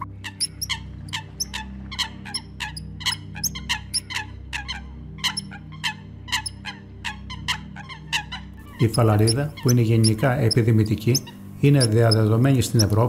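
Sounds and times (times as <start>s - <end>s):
coots calling: 0.0s - 13.0s.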